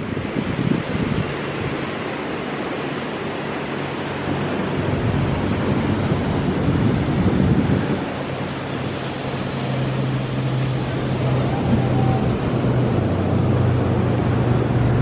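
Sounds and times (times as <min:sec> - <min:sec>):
wind hiss: 0:00.0 - 0:14.8
low engine hum: 0:00.0 - 0:15.0
ocean surf: 0:00.0 - 0:15.0.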